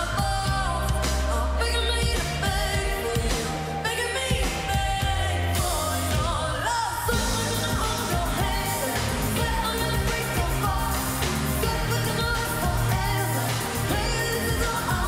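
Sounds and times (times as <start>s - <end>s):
live pop band: 0.0s - 15.0s
woman singing: 0.0s - 15.0s.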